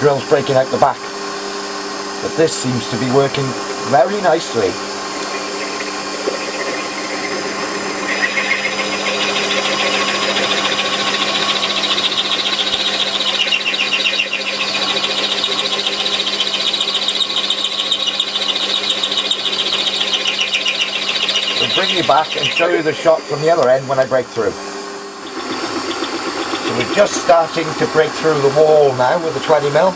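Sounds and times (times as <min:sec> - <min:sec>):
lathe boring metal: 0:00.0 - 0:29.9
lathe motor humming: 0:00.0 - 0:29.9.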